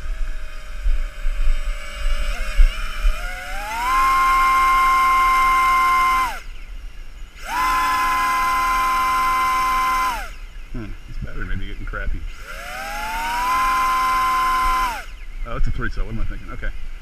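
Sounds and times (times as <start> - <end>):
drone motors high whine: 0.0 - 17.0.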